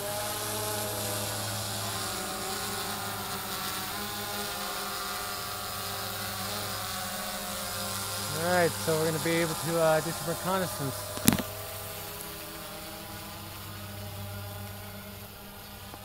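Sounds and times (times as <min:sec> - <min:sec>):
quadcopter buzzing whine: 0:00.0 - 0:16.0.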